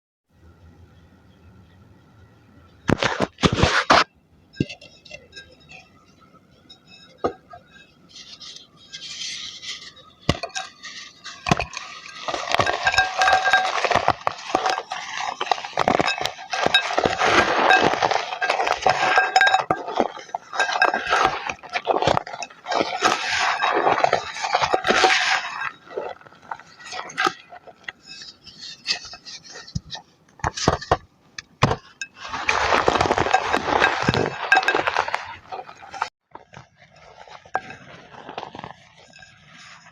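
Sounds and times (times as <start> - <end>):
chalk crunching and crackling: 2.9 - 5.8, 7.6 - 31.0, 31.8 - 39.9.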